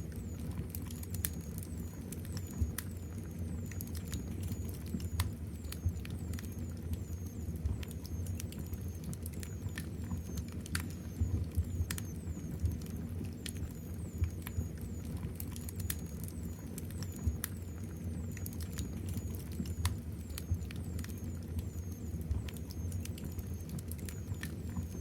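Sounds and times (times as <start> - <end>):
fire crackling in a fireplace: 0.0 - 25.0.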